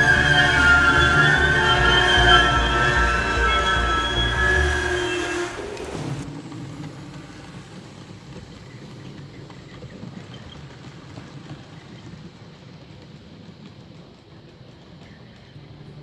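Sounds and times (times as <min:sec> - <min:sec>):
model train rumbling on track: 0:00.0 - 0:16.0.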